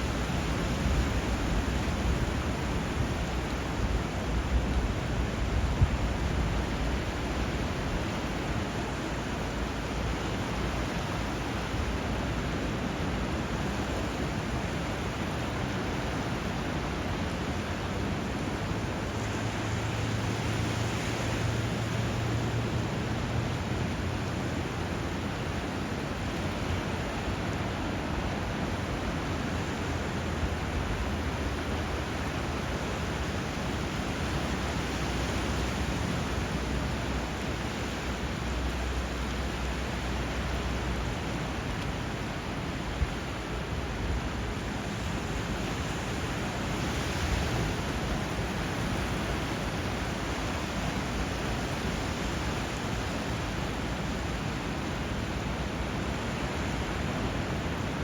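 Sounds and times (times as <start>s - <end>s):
rushing river water: 0.0s - 58.0s
sea waves: 0.0s - 58.0s.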